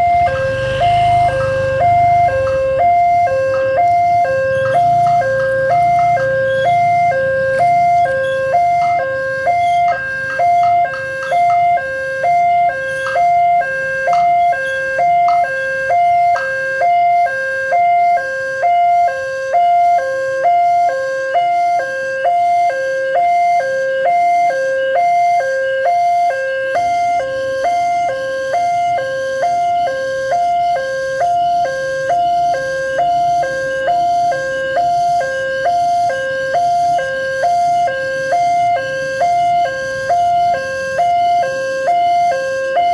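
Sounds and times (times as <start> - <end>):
electronic two-tone crossing alarm: 0.0 - 42.9.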